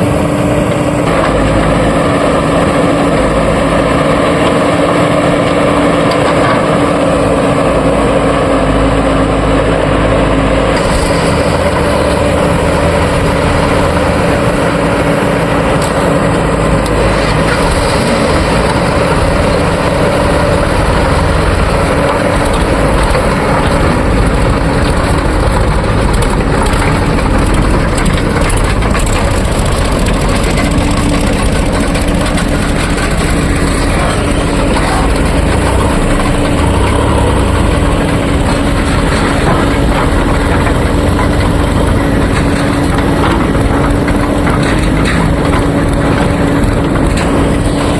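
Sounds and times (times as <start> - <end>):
backhoe diesel engine under load: 0.0 - 47.9
machinery clatter: 0.0 - 47.9.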